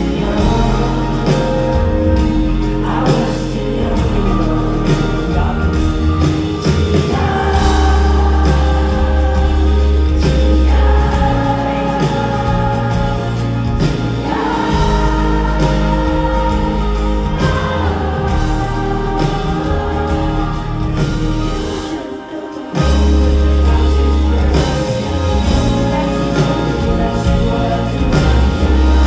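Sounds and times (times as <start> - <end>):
live pop-rock band: 0.0 - 29.0
voices singing held notes: 0.0 - 29.0.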